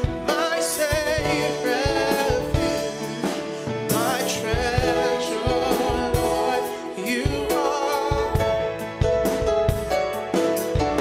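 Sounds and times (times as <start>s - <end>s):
man singing: 0.0s - 8.8s.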